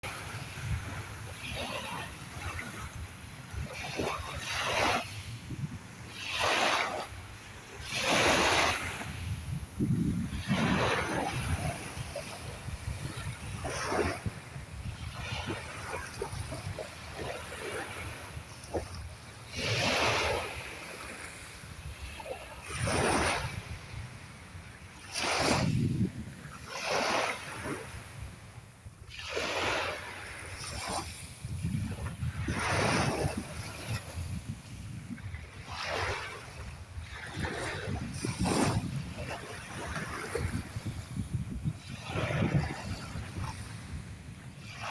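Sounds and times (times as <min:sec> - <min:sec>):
sea waves breaking: 0:00.0 - 0:44.9.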